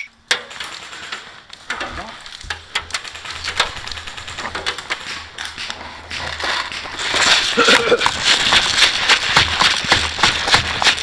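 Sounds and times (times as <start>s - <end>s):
rifle handling rustles and clicks: 0.3s - 11.0s.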